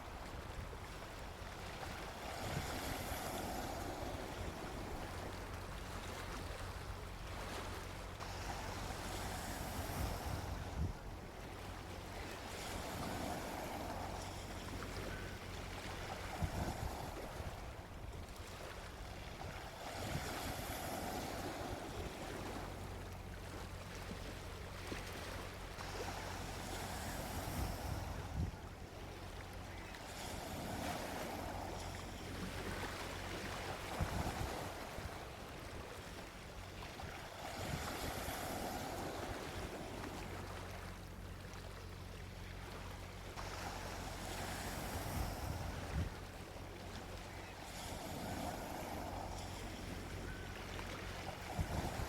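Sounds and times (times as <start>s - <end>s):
gentle ocean waves washing ashore: 0.0s - 52.0s.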